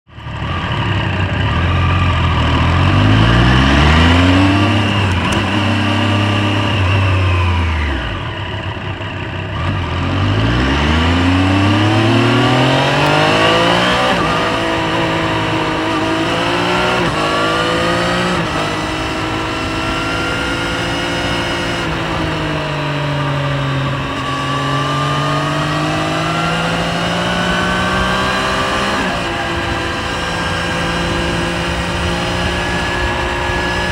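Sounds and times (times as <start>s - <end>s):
motorcycle engine revving: 0.1s - 33.9s.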